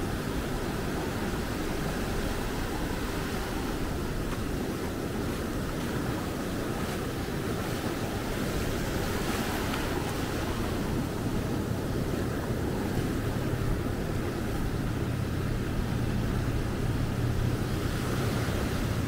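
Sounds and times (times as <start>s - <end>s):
ocean surf breaking: 0.0s - 19.0s
wind rumbling on microphone: 0.0s - 19.0s.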